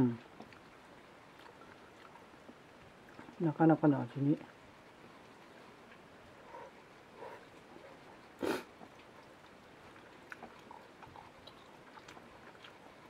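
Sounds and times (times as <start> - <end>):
faint chewing with clicks: 0.0 - 13.0.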